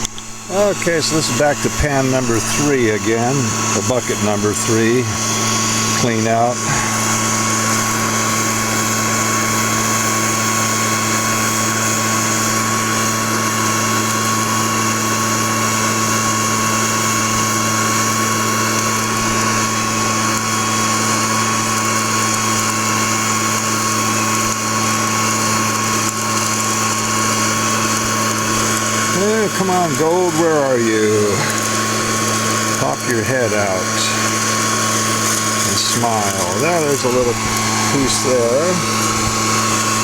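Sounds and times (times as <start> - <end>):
small motor humming and whining: 0.0 - 40.0.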